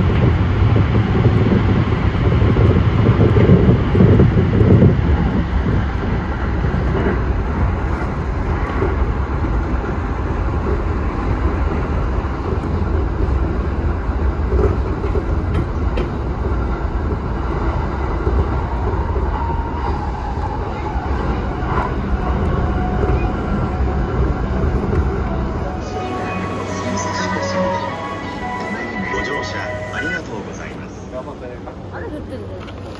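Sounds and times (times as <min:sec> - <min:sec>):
train clatter: 0:00.0 - 0:32.9
train wheels rumbling on rail: 0:00.0 - 0:32.9.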